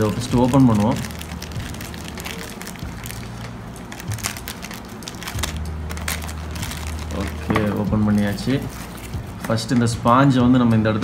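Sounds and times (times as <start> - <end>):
plastic packet crinkling: 0.0 - 9.6
steady low hum: 0.0 - 11.0.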